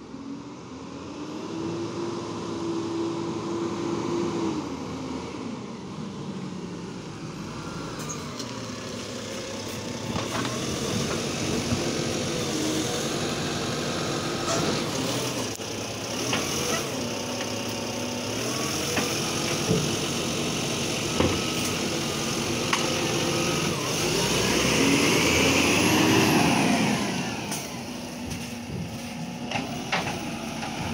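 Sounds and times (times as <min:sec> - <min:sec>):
garbage truck diesel engine: 0:00.0 - 0:30.9.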